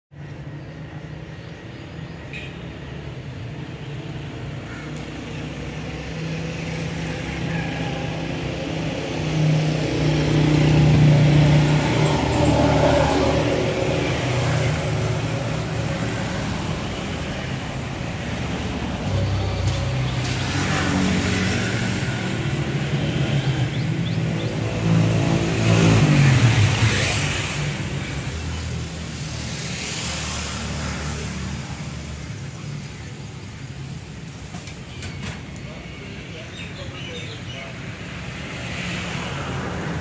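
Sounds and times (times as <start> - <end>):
vehicles passing: 0.1 - 40.0.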